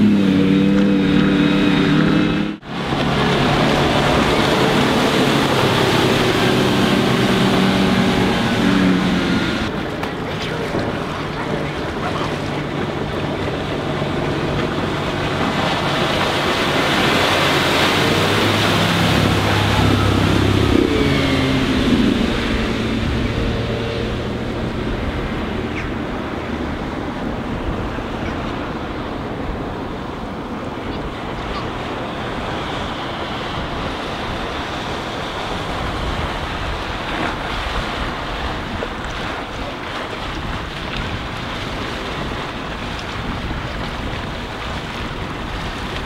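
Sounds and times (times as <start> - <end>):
boat engine running: 0.0 - 46.0
boat wash hissing on water: 2.6 - 28.0, 31.5 - 46.0.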